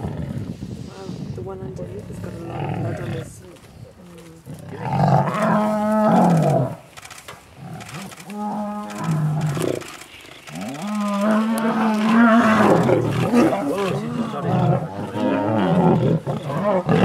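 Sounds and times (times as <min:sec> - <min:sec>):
lions growling and snarling: 0:00.0 - 0:03.6, 0:04.3 - 0:17.0.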